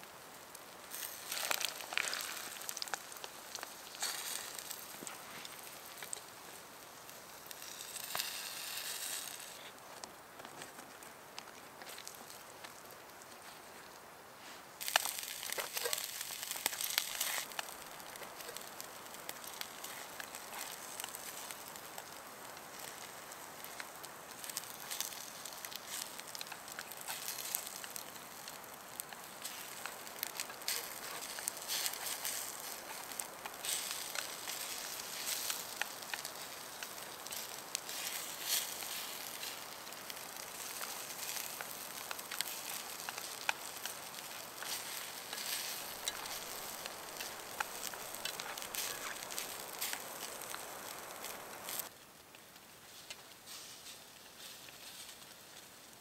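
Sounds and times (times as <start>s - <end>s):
campfire crackling: 0.0s - 56.0s
fire pops and snaps: 0.1s - 14.1s, 14.8s - 56.0s.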